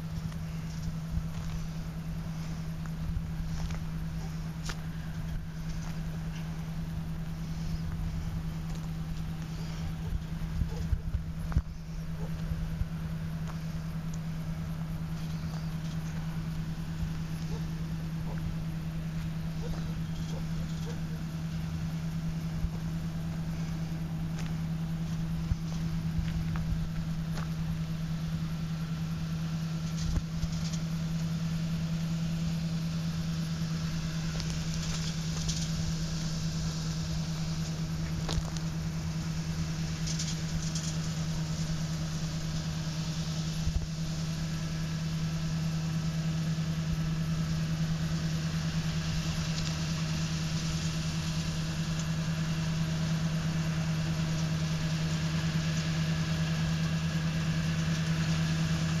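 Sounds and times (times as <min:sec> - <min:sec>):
harvester engine drone: 0:00.0 - 0:59.0.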